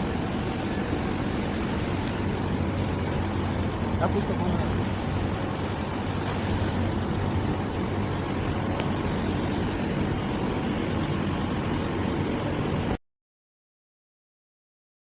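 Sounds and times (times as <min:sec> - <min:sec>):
compressor hum: 0:00.0 - 0:13.0
fan noise: 0:00.0 - 0:13.0.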